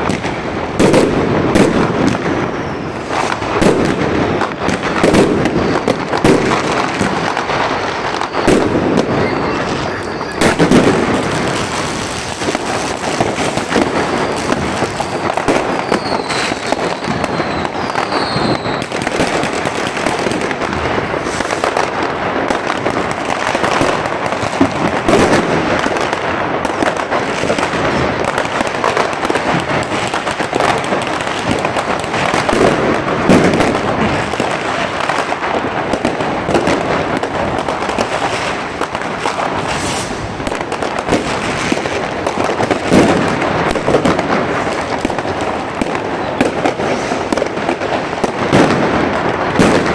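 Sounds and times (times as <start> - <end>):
firework whistles: 0.0 - 35.4, 36.0 - 49.9
fireworks bursting and crackling: 0.0 - 49.9
loud firework bangs: 0.0 - 49.9.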